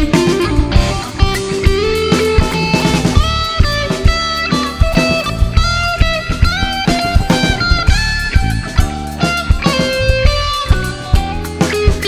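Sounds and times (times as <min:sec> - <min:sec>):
drum kit beat: 0:00.0 - 0:12.0
electric bass: 0:00.0 - 0:12.0
electric guitar: 0:00.0 - 0:12.0
lead melody in held notes: 0:00.0 - 0:12.0.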